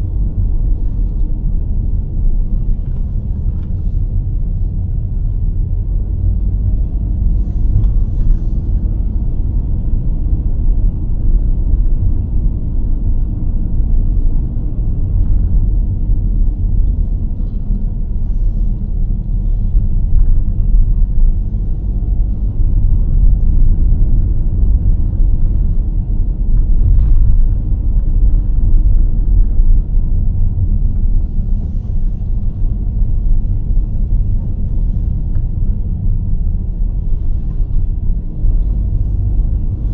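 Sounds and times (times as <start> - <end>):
car driving on a road: 0.0 - 39.9.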